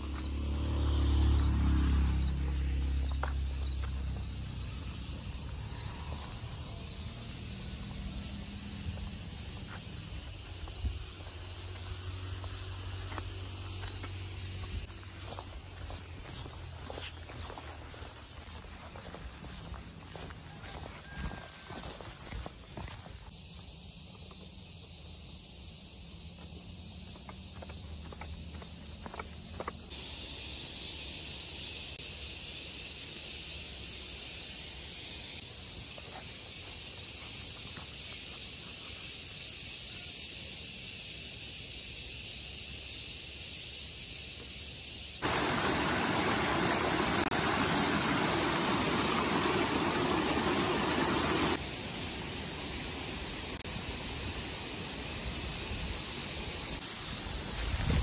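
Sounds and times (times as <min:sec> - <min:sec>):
hissing outdoor ambience: 0:00.0 - 0:58.0.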